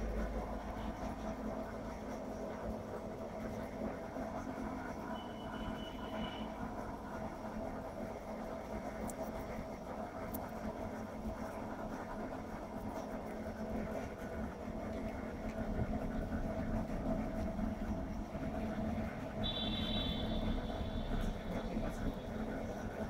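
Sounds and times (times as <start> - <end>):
mechanical drone: 0.0 - 23.0.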